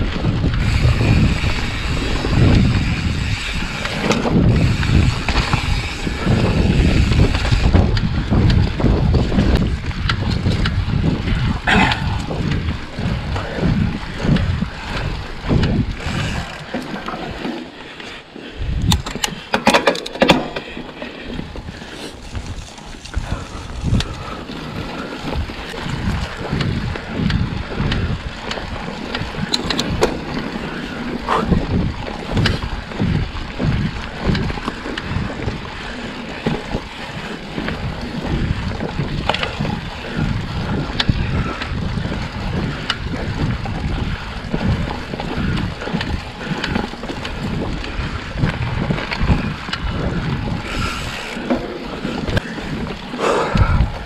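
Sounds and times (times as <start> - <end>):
bike knocks and rattles: 0.0 - 17.8, 18.7 - 54.0
bike tyres rolling on dirt: 0.0 - 54.0
wind buffeting microphone: 0.0 - 54.0.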